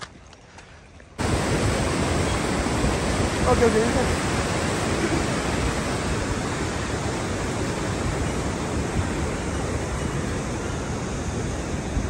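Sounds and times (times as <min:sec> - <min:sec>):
wind buffeting microphone: 0:01.2 - 0:12.0.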